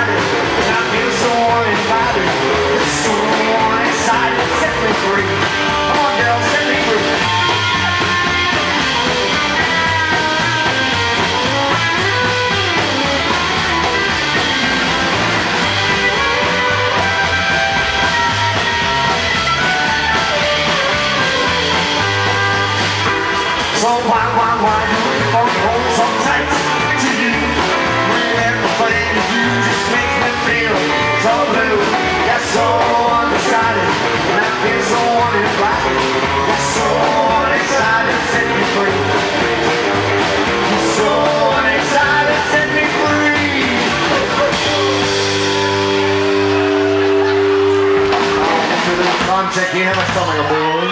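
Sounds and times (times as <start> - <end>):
acoustic guitar: 0.0 - 50.8
drums: 0.0 - 50.9
electric guitar: 0.0 - 50.9
upright double bass: 0.0 - 50.9.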